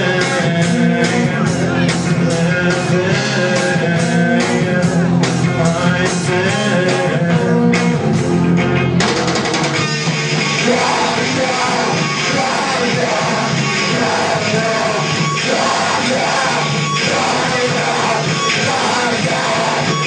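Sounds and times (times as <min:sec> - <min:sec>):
drum beats: 0:00.0 - 0:20.0
live rock band: 0:00.0 - 0:20.0.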